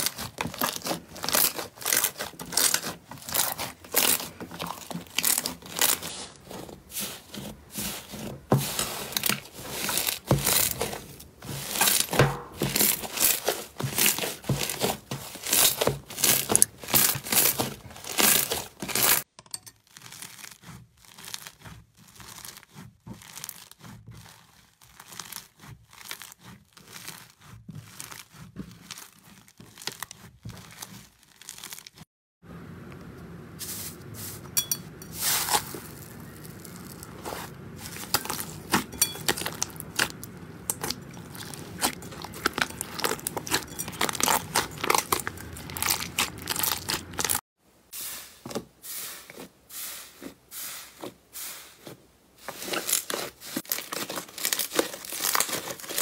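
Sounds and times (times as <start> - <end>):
slime crackling and popping: 0.0 - 19.3, 19.9 - 32.0, 35.2 - 47.4, 52.5 - 56.0.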